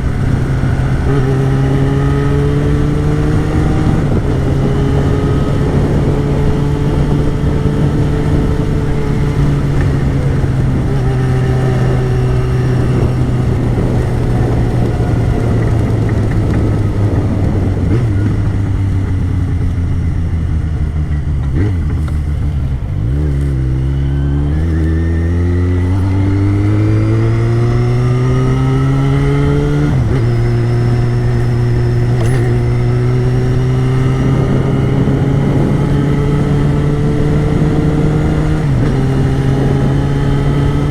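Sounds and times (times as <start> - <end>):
gear change: 0.0 - 40.9
motorcycle engine running: 0.0 - 40.9.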